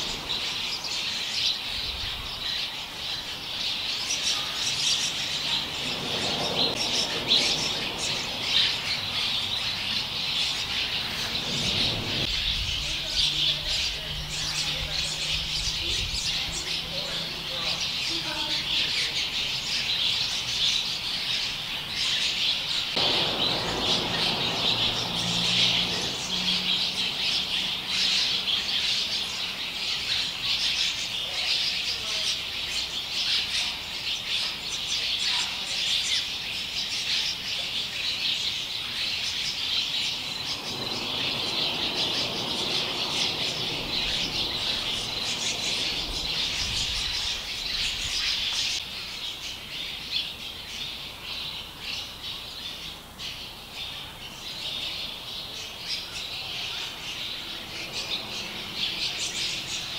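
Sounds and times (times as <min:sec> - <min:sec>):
swallows chattering: 0:00.0 - 0:59.9.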